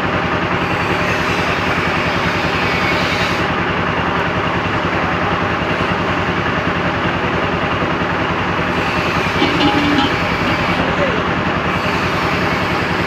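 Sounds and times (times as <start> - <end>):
heavy engine idling: 1.6 - 13.0.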